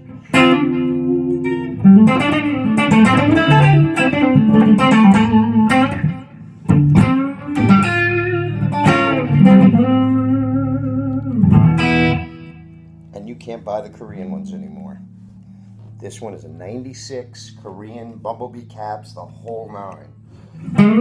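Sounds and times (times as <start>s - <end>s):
amplified electric guitar riffs: 0.0s - 21.0s.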